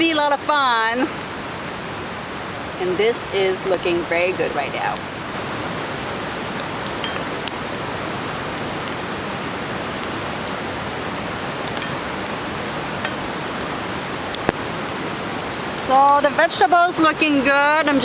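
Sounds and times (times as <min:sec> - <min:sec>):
campfire pops and crackles: 0:00.0 - 0:18.0
vegetables sizzling in a pan: 0:02.8 - 0:18.0.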